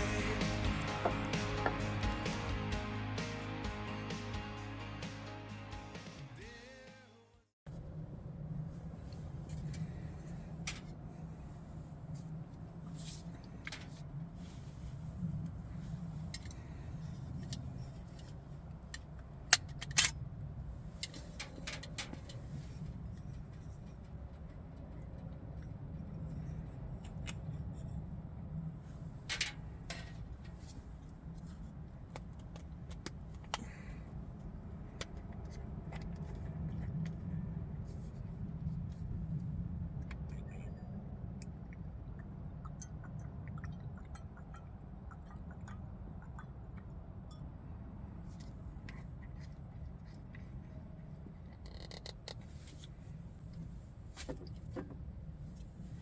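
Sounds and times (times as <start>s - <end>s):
low steady rumble: 0.0s - 3.4s, 7.7s - 56.0s.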